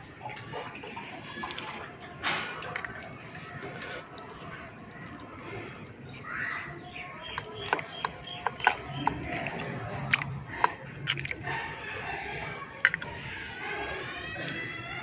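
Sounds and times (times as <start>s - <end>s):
background murmur: 0.0s - 15.0s.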